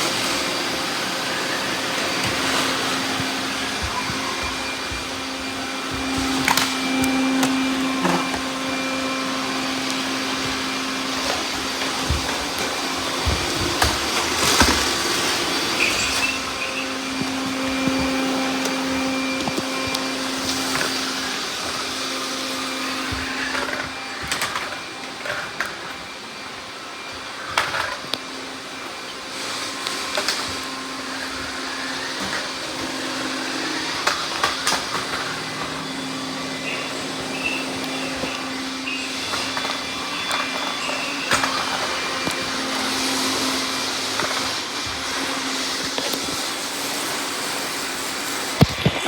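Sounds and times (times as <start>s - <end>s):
robot vacuum motor hum: 0.0s - 49.0s.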